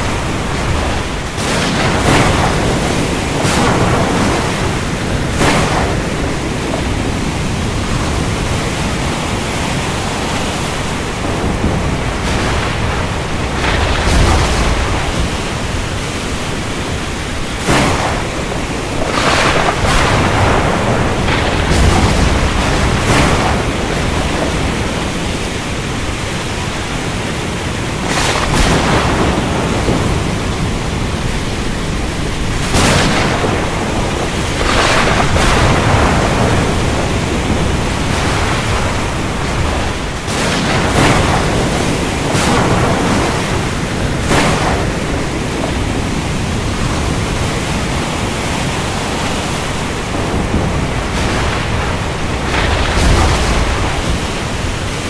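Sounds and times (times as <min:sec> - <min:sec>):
rain and sea rushing: 0:00.0 - 0:55.0
thunder rumbles: 0:00.0 - 0:55.0.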